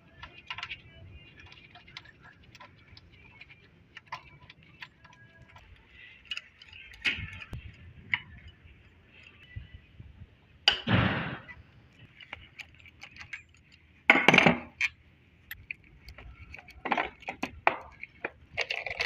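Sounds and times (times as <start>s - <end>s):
metal tools clinking: 0.2s - 9.6s, 11.9s - 19.0s.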